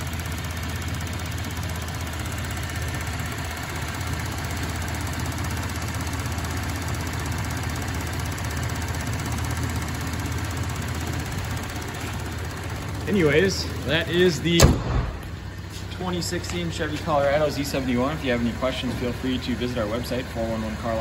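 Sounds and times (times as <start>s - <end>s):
car engine idling: 0.0s - 21.0s
fuel injectors ticking: 0.0s - 21.0s.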